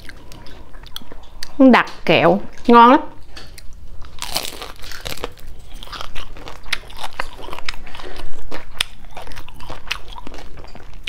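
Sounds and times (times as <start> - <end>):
crunching fried wontons: 0.0 - 1.6, 3.3 - 11.0.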